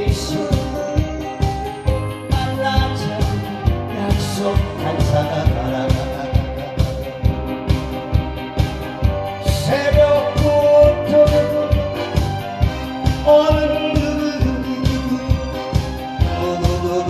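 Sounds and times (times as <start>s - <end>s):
man singing into microphone: 0.0s - 7.4s, 9.4s - 17.0s
backing track music: 0.0s - 17.0s
steady drum beat: 0.0s - 17.0s.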